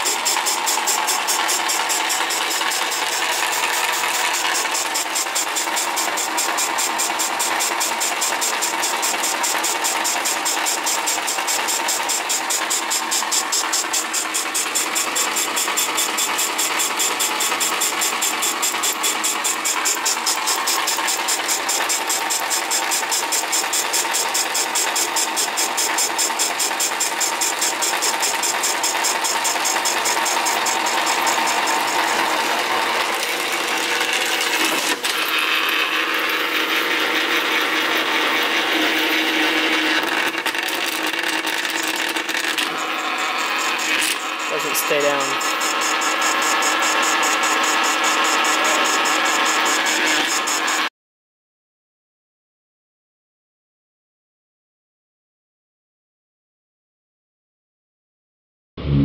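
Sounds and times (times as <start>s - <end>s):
metal lathe whirring: 0.0s - 50.9s.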